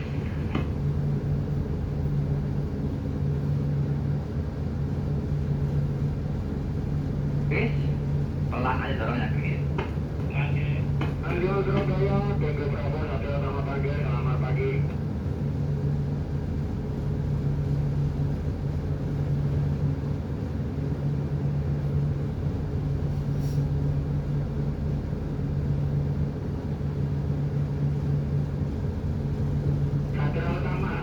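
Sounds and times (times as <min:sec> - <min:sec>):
ship engine droning: 0:00.0 - 0:31.0.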